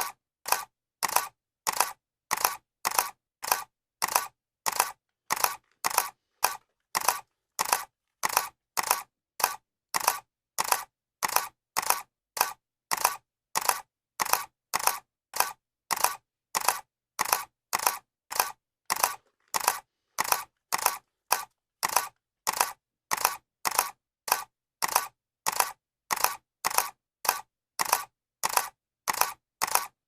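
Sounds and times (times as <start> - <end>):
camera shutter clicking: 0.0 - 30.0.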